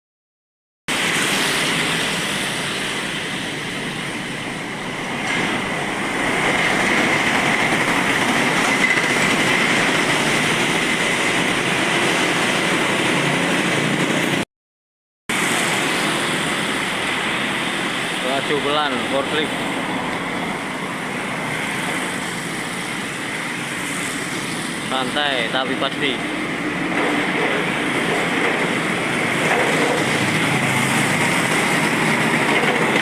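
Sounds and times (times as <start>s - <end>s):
heavy trucks passing on wet road: 0.9s - 14.4s, 15.3s - 33.0s.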